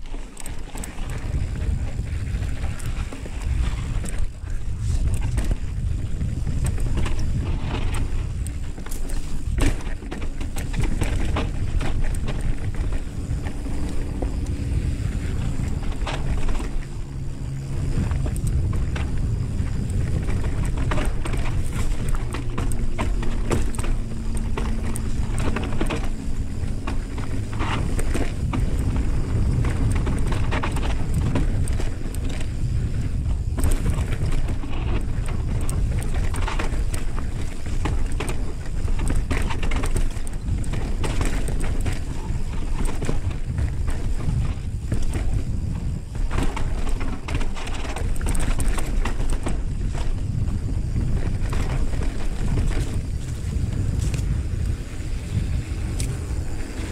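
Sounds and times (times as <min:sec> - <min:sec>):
bike rattling over rocks: 0:00.0 - 0:56.9
tyres crunching on dirt: 0:00.0 - 0:56.9
wind buffeting microphone: 0:00.0 - 0:56.9.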